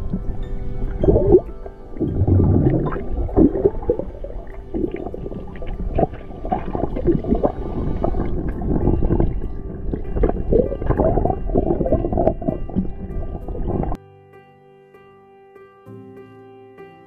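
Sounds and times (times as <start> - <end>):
underwater churning and gurgling: 0.0 - 14.0.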